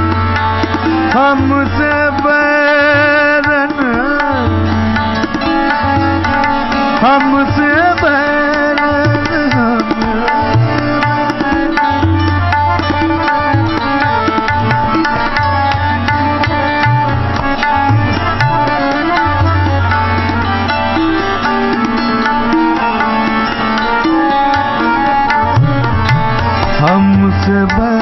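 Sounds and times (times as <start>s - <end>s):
harmonium notes: 0.0s - 28.0s
tabla playing fast rhythm: 0.0s - 28.0s
tanpura drone: 0.0s - 28.0s.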